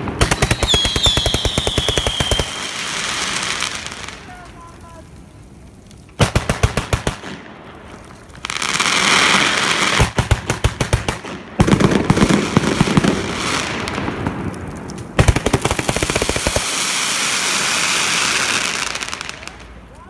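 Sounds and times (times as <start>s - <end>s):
fireworks bangs: 0.0s - 5.1s, 6.1s - 20.0s
fireworks hissing crackle: 0.0s - 20.0s.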